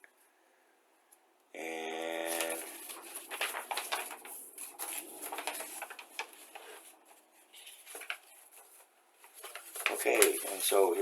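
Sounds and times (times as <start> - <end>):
paper crinkling and rustling: 2.2 - 11.0.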